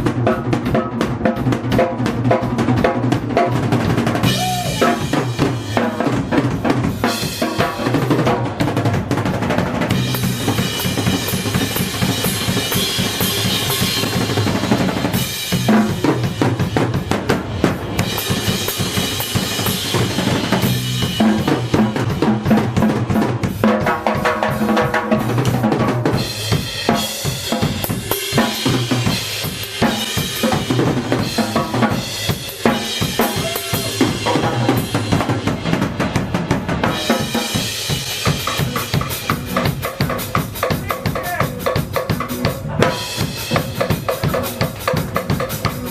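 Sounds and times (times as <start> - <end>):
bass drum and snare strokes: 0.0 - 45.9
live band playing: 0.0 - 45.9.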